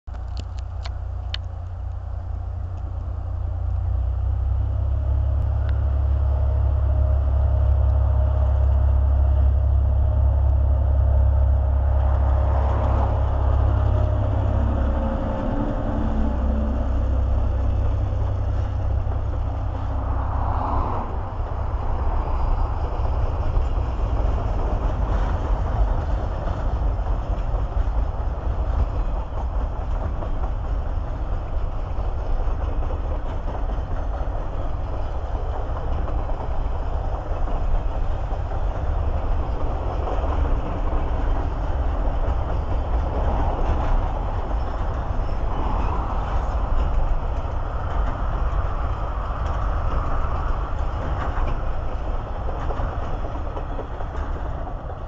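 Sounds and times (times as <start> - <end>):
diesel locomotive engine rumble: 0.0 - 55.0
freight train rolling and rattling: 0.1 - 55.0.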